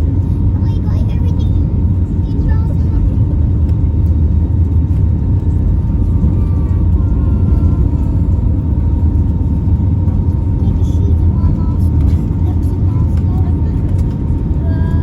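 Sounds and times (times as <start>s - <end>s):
aircraft cabin engine rumble: 0.0s - 15.0s.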